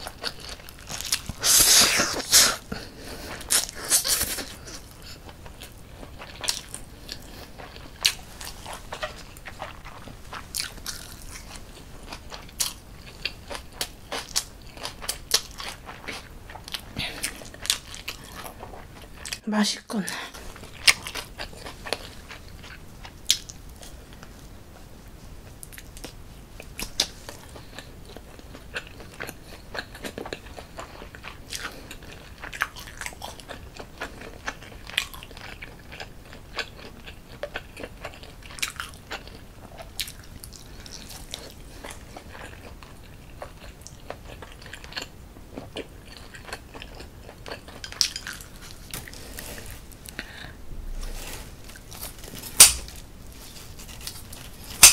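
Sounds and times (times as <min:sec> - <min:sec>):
person chewing food: 0:00.0 - 0:19.4, 0:20.3 - 0:54.9.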